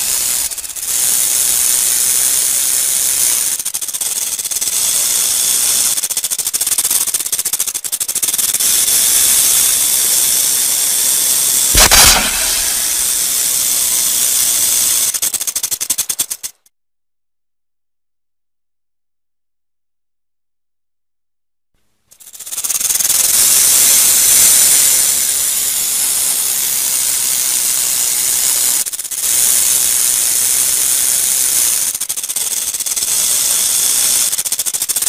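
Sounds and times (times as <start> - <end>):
rattlesnake tail rattling: 0.0 - 16.7, 22.1 - 35.0.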